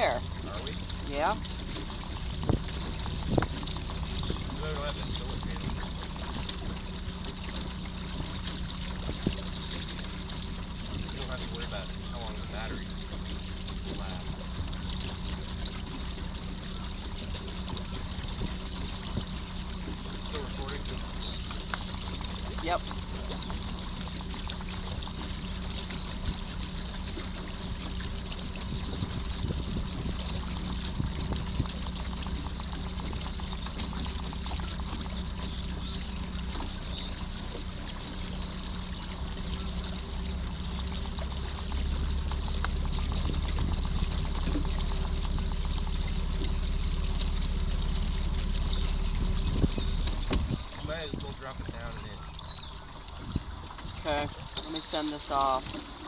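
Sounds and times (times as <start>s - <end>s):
electric trolling motor whine: 0.0s - 56.0s
low rumble: 0.0s - 56.0s
water splashing along canoe hull: 0.0s - 56.0s.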